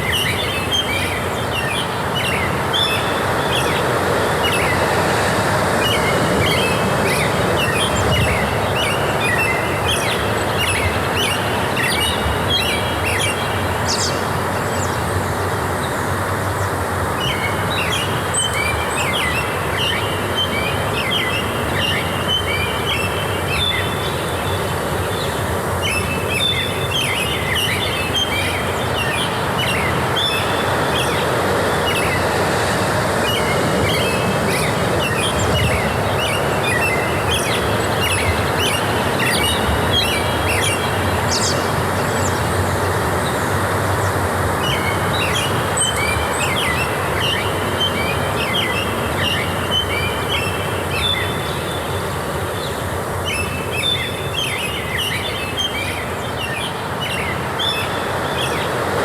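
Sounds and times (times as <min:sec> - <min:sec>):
songbirds chirping: 0:00.0 - 0:59.0
steady rushing background noise: 0:00.0 - 0:59.0.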